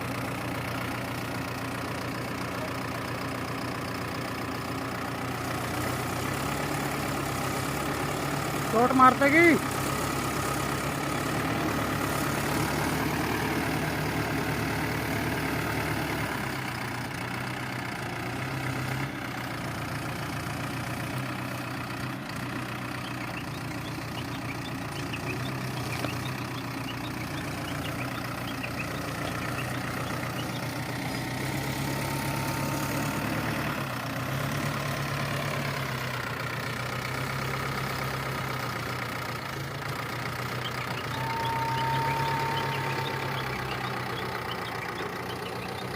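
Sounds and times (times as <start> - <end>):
heavy diesel engine idling: 0.0 - 45.9.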